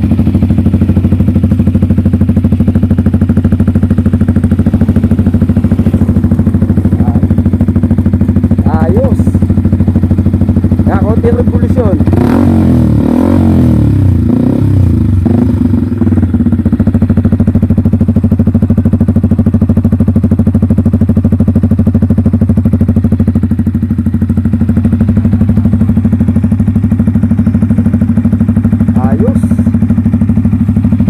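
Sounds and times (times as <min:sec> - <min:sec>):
motorcycle engine revving and idling: 0:00.0 - 0:31.0.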